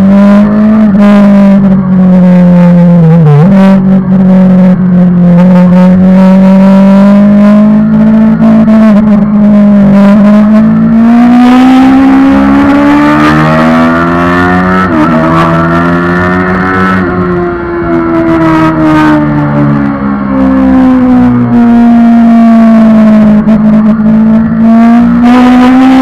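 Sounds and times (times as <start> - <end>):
motorcycle engine revving high: 0.0 - 26.0.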